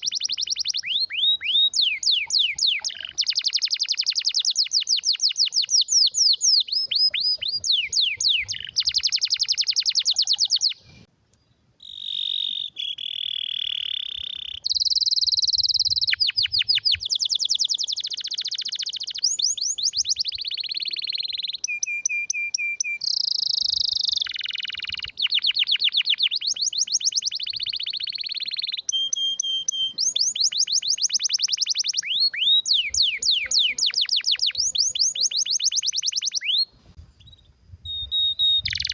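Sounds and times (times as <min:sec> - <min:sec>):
canary singing trills: 0:00.0 - 0:11.1, 0:11.8 - 0:38.9.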